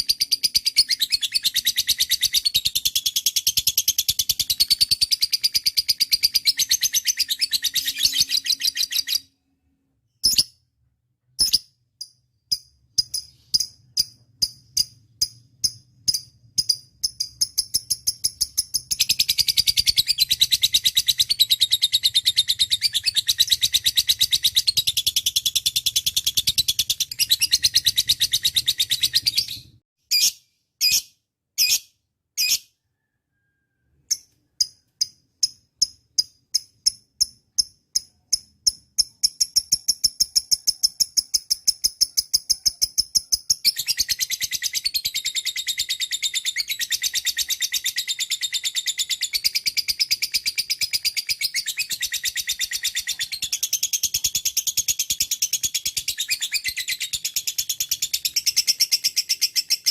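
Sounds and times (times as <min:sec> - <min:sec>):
bird sharp chirps: 0:00.0 - 0:09.4, 0:10.1 - 0:10.6, 0:11.3 - 0:59.9.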